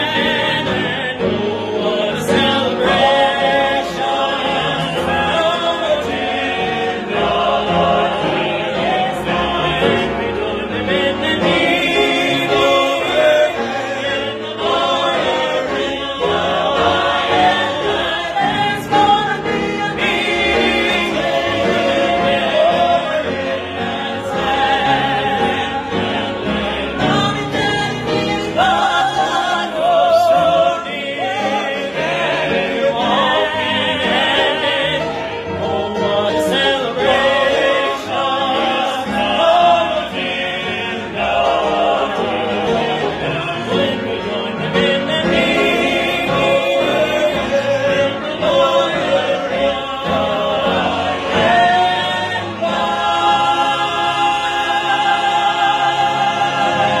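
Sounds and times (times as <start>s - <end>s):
group singing in parts: 0.0s - 57.0s
upright piano accompaniment: 0.0s - 57.0s.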